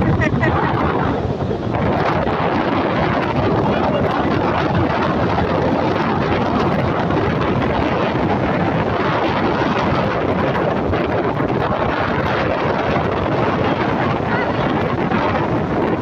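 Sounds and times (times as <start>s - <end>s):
big waves breaking: 0.0s - 16.0s
wind buffeting microphone: 0.0s - 16.0s.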